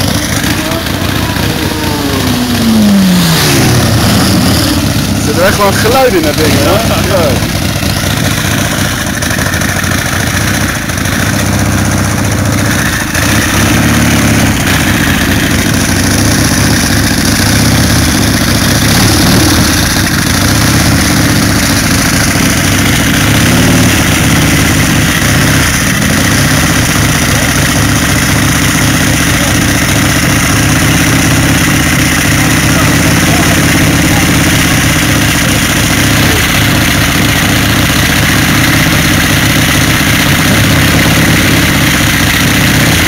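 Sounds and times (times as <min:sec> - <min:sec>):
motorcycle engine running loud: 0:00.0 - 0:43.0.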